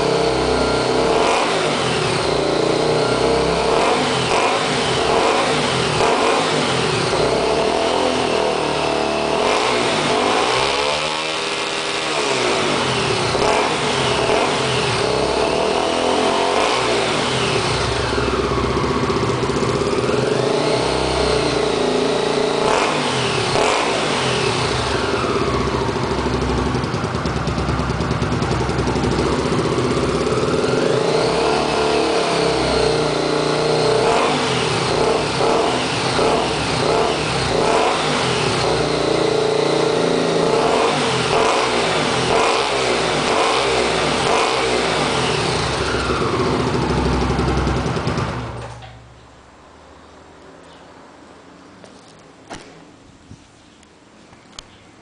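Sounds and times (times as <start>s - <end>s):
motorcycle engine revving: 0.0s - 49.3s.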